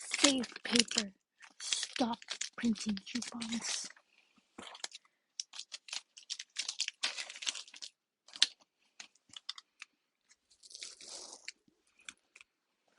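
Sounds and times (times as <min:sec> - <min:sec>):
paper crinkling and tearing: 0:00.0 - 0:04.0, 0:04.6 - 0:12.5.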